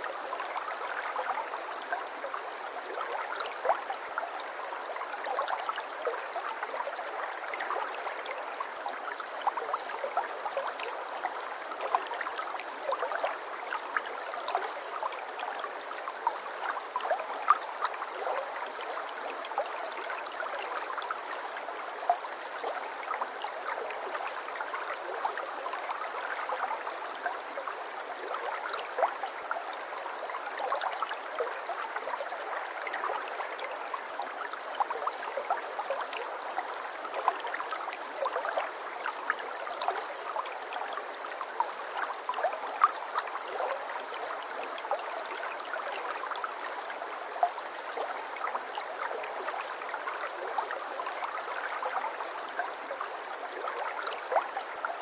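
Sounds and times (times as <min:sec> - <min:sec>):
brook babbling over stones: 0:00.0 - 0:55.0.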